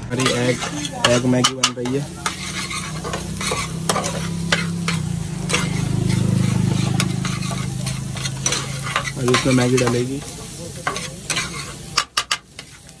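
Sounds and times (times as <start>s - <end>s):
egg sizzling in a pan: 0.0s - 13.0s
metal spatula scraping pan: 0.0s - 13.0s.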